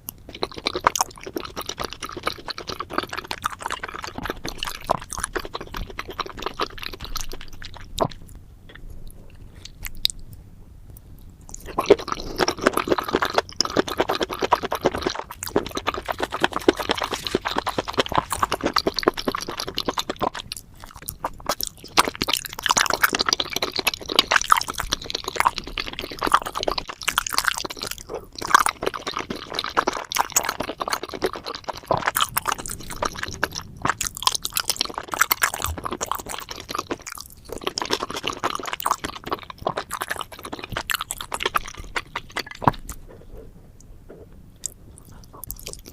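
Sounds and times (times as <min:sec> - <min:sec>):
person chewing: 0:00.0 - 0:10.4, 0:11.0 - 0:45.9.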